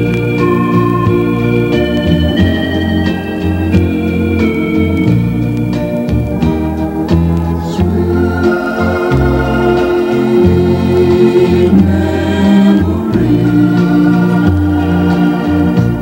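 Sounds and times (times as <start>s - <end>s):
organ music: 0.0s - 16.0s.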